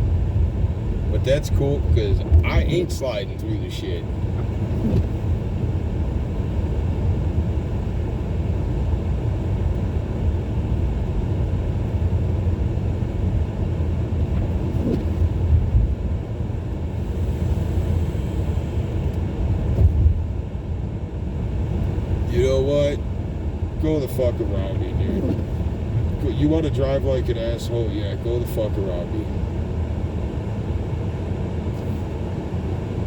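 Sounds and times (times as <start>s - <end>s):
car driving on snowy road: 0.0s - 33.0s.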